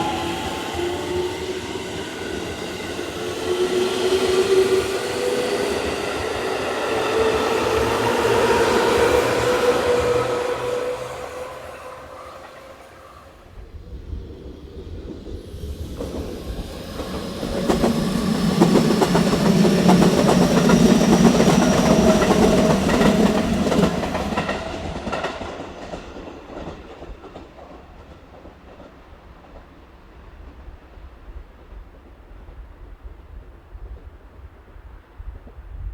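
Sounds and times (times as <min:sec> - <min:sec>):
train wheels clattering on rails: 0:00.0 - 0:13.0, 0:14.8 - 0:35.6
faint train whine: 0:00.0 - 0:35.9.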